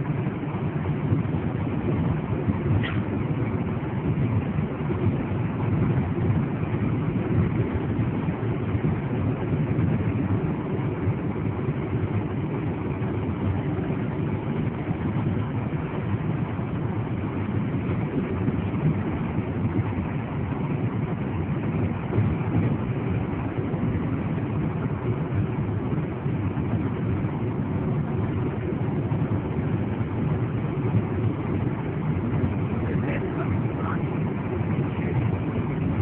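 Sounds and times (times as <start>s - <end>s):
car cabin road and engine noise: 0.0s - 36.0s.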